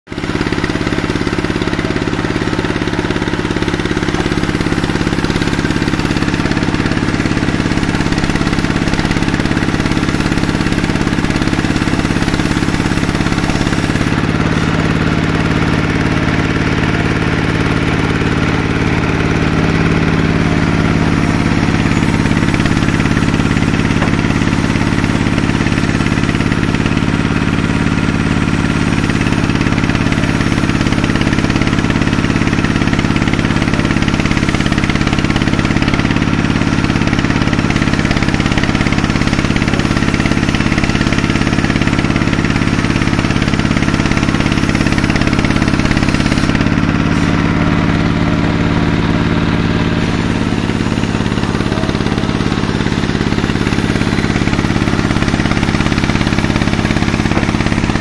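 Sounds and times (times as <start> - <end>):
saw cutting wood: 0.1 - 58.0
saw motor drone: 0.1 - 58.0.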